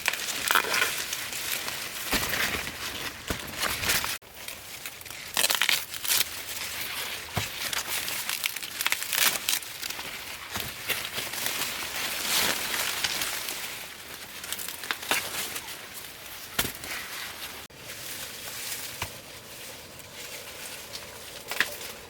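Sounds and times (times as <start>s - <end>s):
dry rustling and crackling: 0.0s - 22.0s.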